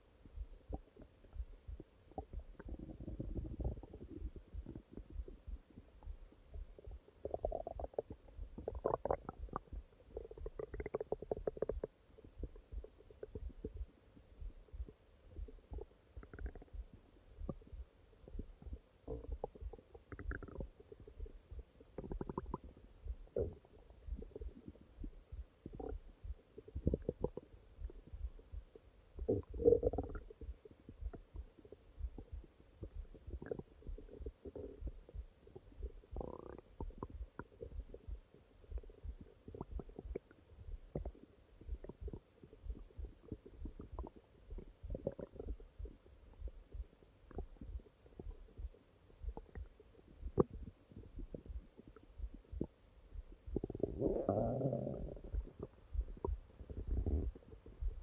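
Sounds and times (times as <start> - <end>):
stomach growling and gurgling: 0.0 - 58.0.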